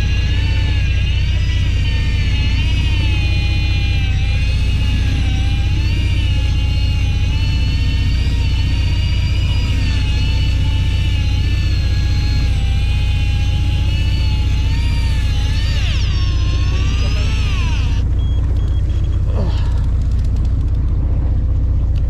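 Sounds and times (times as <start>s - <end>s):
boat engine rumble: 0.0s - 22.0s
electric fishing reel motor whine: 0.0s - 22.0s.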